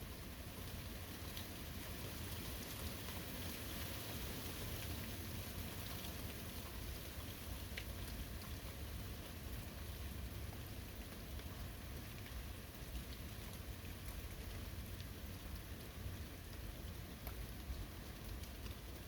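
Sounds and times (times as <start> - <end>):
rain falling on forest: 0.0 - 19.0
raindrops ticking: 0.6 - 19.0.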